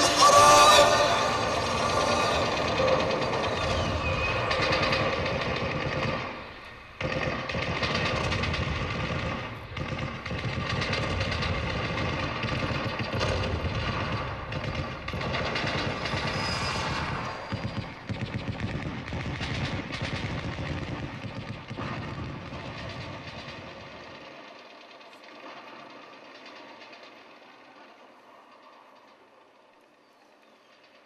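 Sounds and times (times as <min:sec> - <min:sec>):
rapid mechanical rattling: 0:00.0 - 0:31.0.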